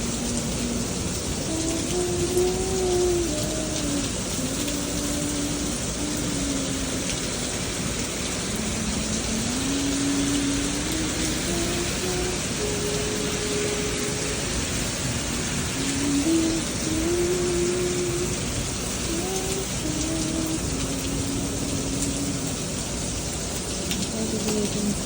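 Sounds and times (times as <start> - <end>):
slow melody of held notes: 0.0 - 22.9
steady rain pouring: 0.0 - 25.0.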